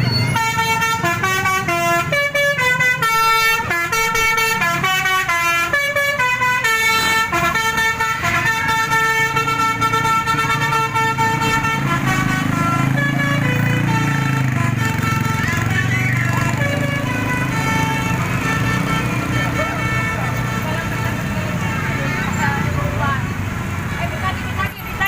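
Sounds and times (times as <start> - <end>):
musical bus horn melody: 0.0 - 23.3
bus engine running: 0.0 - 25.0.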